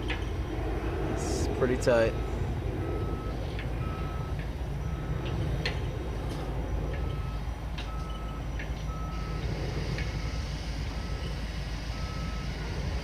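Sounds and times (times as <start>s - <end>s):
diesel engine running: 0.0s - 13.0s
backup alarm beeping: 1.2s - 12.8s.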